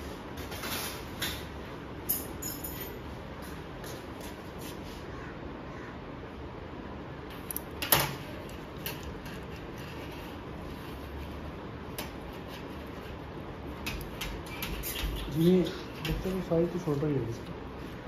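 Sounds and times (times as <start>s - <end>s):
room noise: 0.0s - 18.0s.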